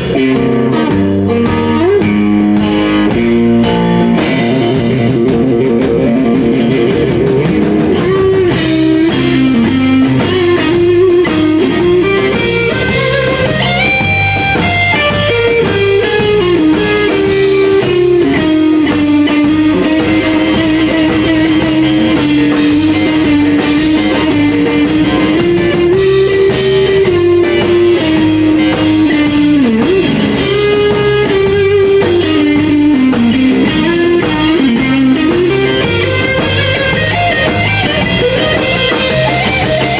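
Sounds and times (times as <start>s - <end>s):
drum kit: 0.0s - 39.9s
electric guitar lead with bends: 0.0s - 39.9s.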